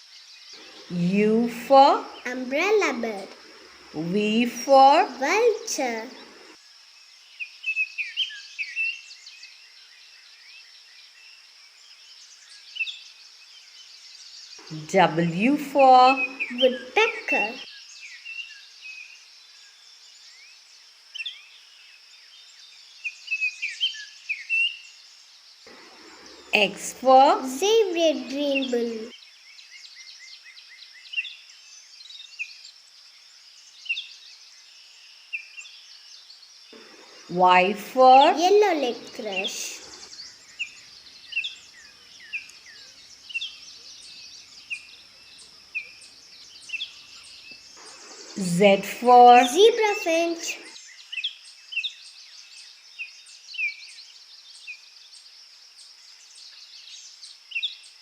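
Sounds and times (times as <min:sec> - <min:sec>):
faint steady high hiss: 0:00.0 - 0:58.0
small birds chirping: 0:00.0 - 0:58.0.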